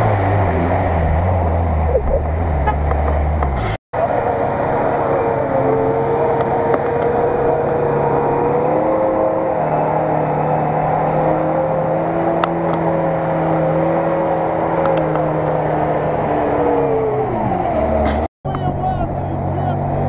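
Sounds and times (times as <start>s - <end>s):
car engine droning in mud: 0.0s - 20.0s.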